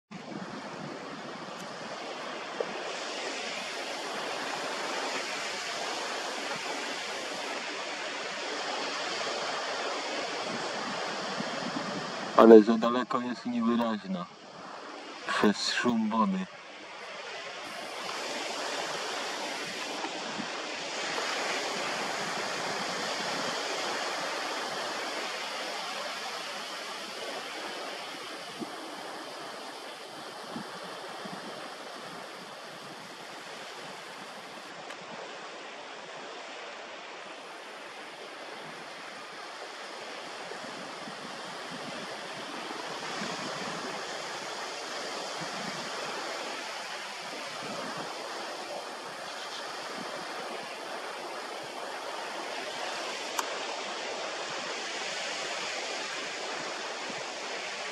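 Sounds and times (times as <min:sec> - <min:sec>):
sea surf washing onto shore: 0:00.1 - 0:57.9.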